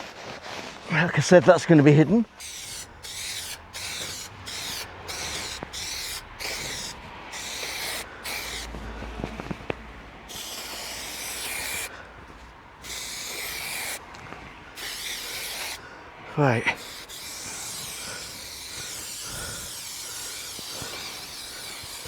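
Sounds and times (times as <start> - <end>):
hand brushing carpet: 0.0 - 15.8, 16.4 - 22.0.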